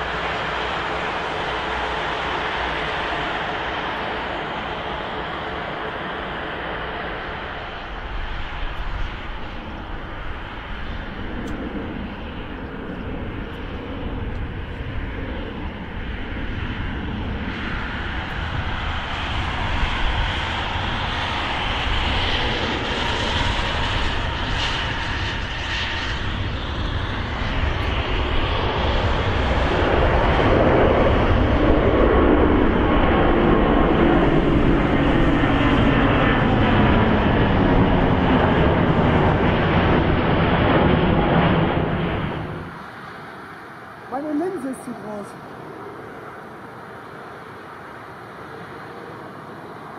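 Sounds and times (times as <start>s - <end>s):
airliner engines rumbling: 0.0s - 49.9s.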